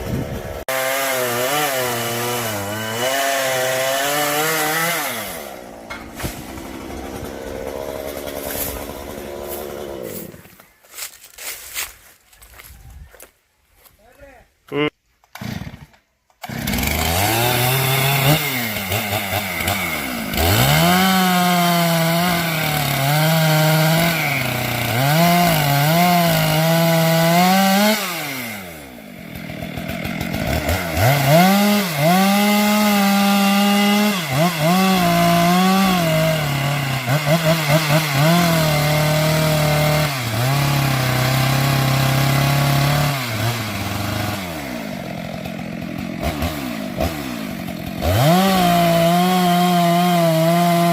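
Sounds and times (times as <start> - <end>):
chainsaw cutting wood: 0.0 - 12.7, 15.2 - 50.9.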